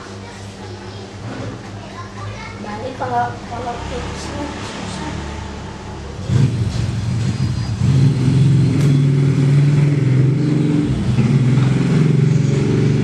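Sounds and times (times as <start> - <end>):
engine humming: 2.1 - 13.0.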